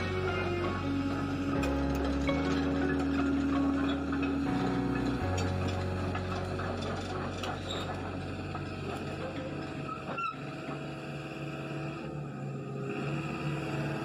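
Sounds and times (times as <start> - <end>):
excavator engine humming: 0.0 - 14.0.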